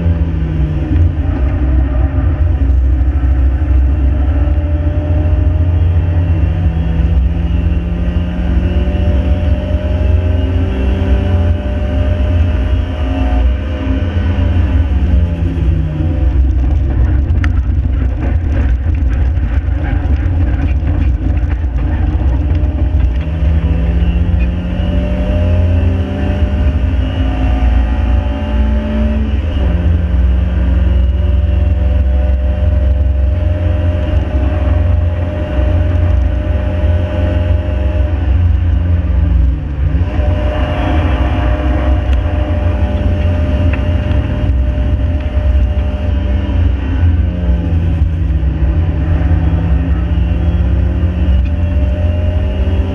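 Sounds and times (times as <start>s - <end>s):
car engine pulling hard: 0.0s - 52.9s
road and wind noise: 0.0s - 52.9s.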